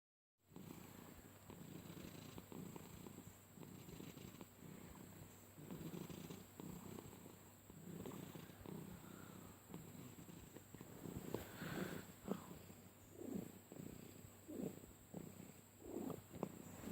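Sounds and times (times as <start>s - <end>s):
cat purring: 0.5s - 16.9s.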